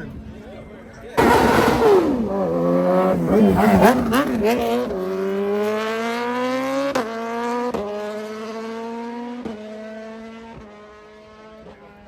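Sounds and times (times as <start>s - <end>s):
race car accelerating through gears: 1.2s - 11.7s.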